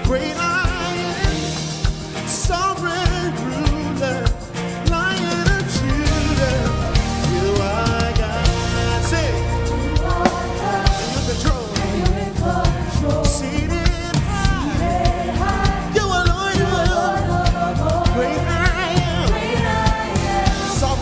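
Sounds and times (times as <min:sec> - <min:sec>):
band with drums and bass: 0:00.0 - 0:21.0
lead singer singing: 0:00.0 - 0:21.0.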